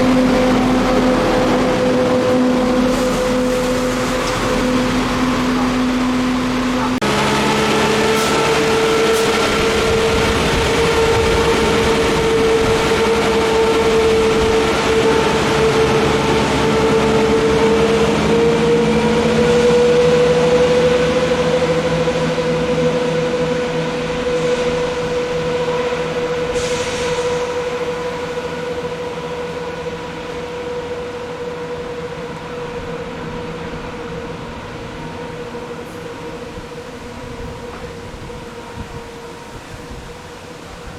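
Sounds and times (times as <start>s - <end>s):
diesel train passing: 0.0s - 40.9s.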